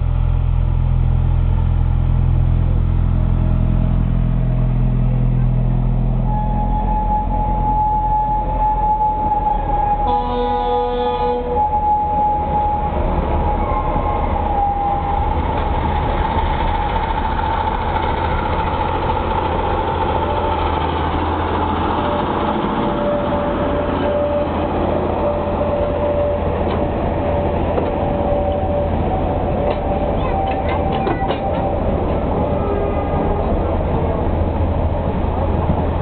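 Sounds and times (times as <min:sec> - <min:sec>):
diesel locomotive engine humming: 0:00.0 - 0:36.0
carriages rolling over rails: 0:06.3 - 0:36.0.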